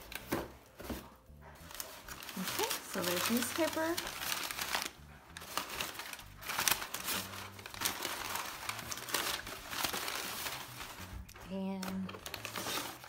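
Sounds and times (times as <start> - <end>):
newspaper crinkling and rustling: 1.6 - 13.0.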